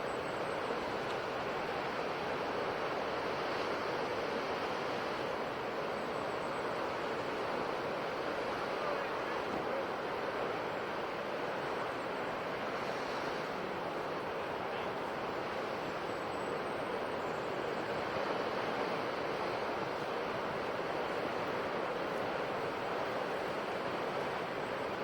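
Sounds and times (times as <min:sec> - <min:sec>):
sea surf washing: 0:00.6 - 0:25.0.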